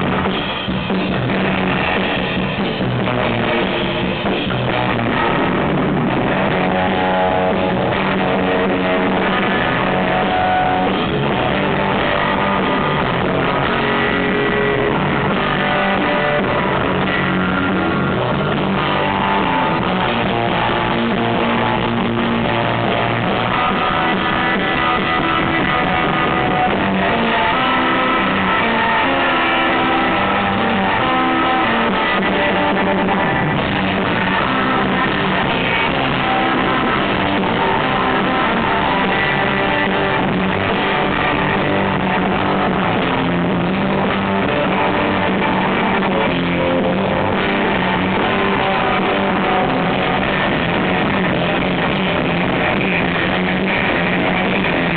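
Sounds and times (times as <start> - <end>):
surf rock electric guitar: 0.0 - 54.9.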